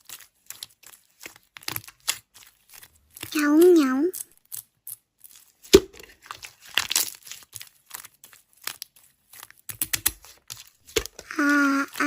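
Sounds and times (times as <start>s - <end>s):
hands squishing slime: 0.0s - 12.0s.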